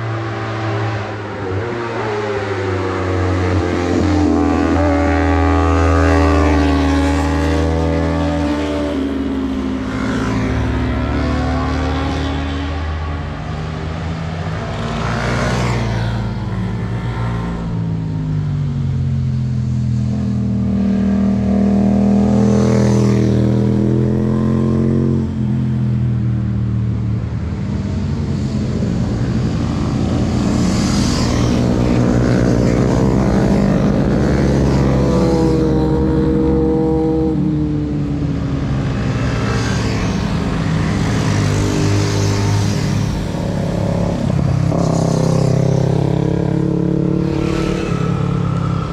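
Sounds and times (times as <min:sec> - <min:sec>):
motorcycles passing and revving: 0:00.0 - 0:48.9.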